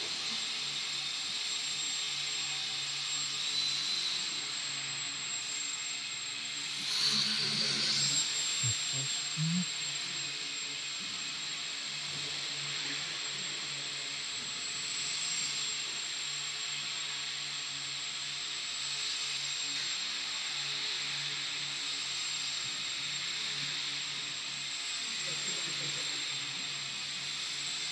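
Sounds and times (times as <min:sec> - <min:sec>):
model airplane motor whine: 0:00.0 - 0:27.9.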